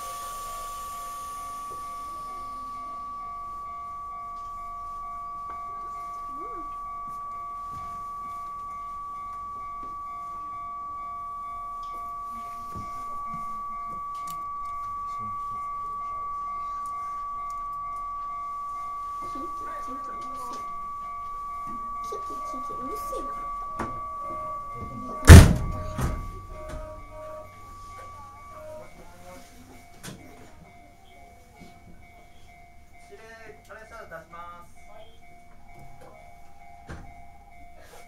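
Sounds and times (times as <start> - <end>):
electronic warning alarm: 0.0 - 33.1, 34.0 - 38.0.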